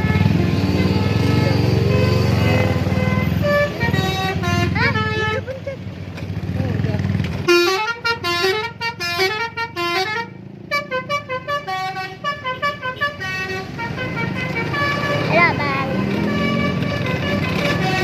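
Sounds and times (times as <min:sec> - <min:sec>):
musical air horn playing a tune: 0:00.0 - 0:05.5, 0:07.5 - 0:18.0.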